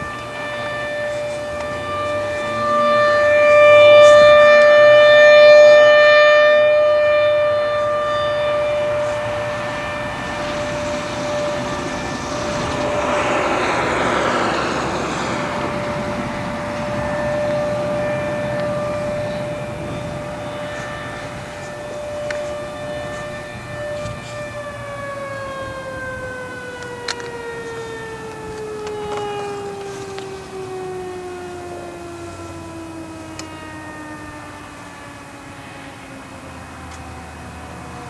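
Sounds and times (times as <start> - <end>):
warning siren steady tone: 0.0 - 38.0.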